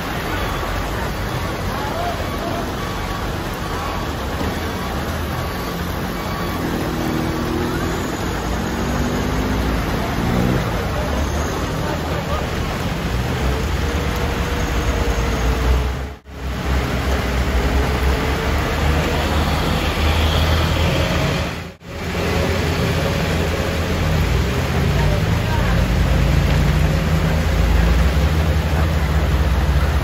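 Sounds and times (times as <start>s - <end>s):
heavy rain on road: 0.0s - 30.0s.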